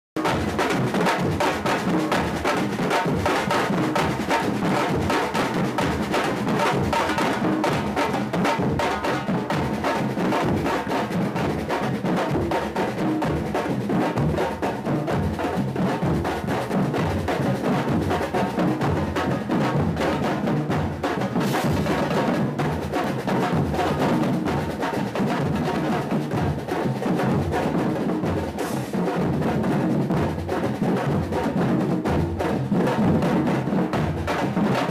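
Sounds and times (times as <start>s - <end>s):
percussion group drumming: 0.2s - 34.9s.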